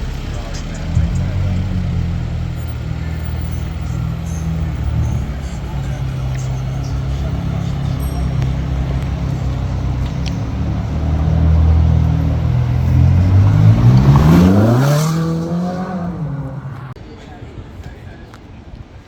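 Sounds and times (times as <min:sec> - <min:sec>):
car accelerating hard: 0:00.0 - 0:17.0
street traffic: 0:00.0 - 0:19.0.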